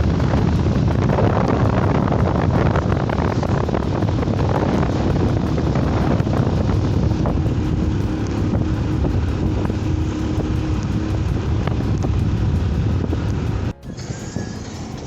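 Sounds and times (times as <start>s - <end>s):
engine and road rumble: 0.0s - 15.0s
wind buffeting microphone: 0.0s - 15.0s.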